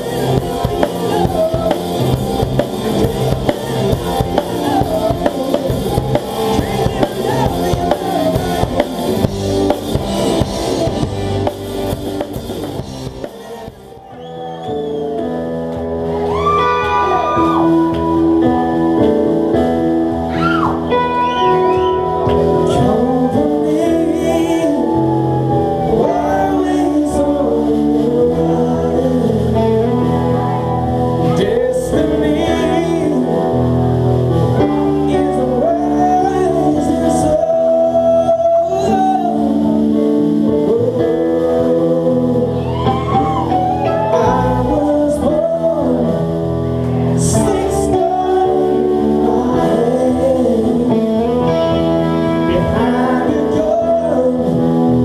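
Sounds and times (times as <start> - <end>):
person singing: 0.0 - 19.4, 20.3 - 55.0
live rock band playing: 0.0 - 55.0.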